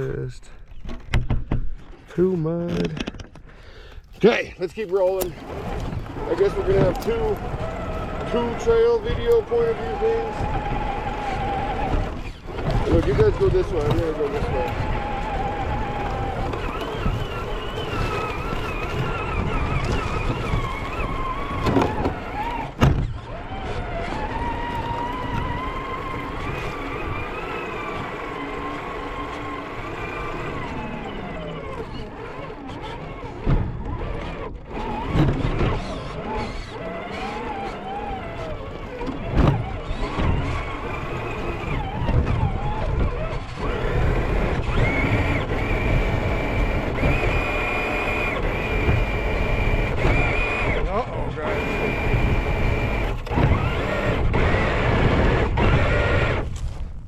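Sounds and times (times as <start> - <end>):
chassis rumbling on rough ground: 0.0 - 57.0
electric motor and gears whining: 4.1 - 57.0.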